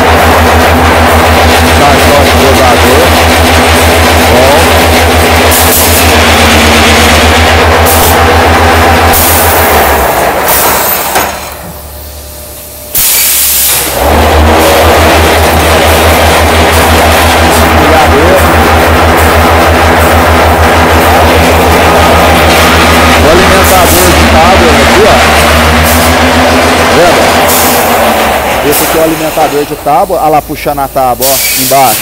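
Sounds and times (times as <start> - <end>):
block-making machine running: 0.0 - 32.0.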